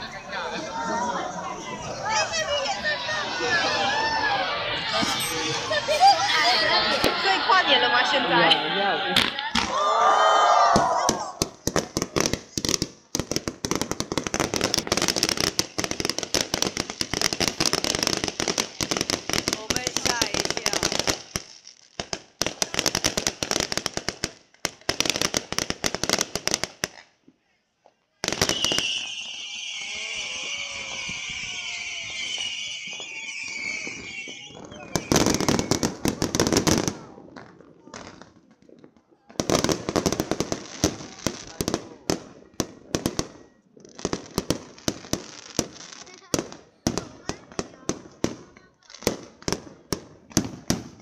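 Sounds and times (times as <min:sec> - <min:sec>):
fireworks crackling and popping: 0:00.0 - 0:51.0.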